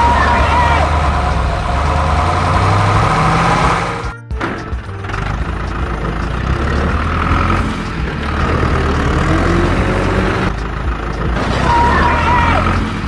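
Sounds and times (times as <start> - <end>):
diesel tractor engine rumble: 0.0 - 13.0.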